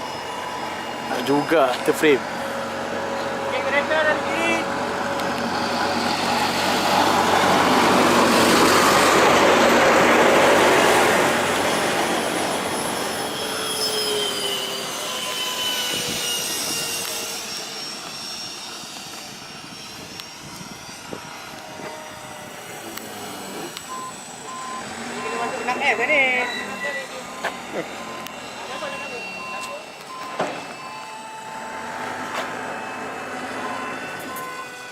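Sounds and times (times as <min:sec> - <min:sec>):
model jet whine flying past: 0:00.0 - 0:34.9.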